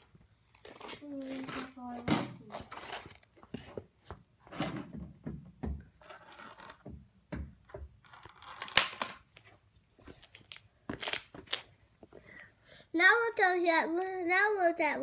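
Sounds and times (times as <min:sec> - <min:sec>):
handling rustles and knocks: 0:00.0 - 0:12.2.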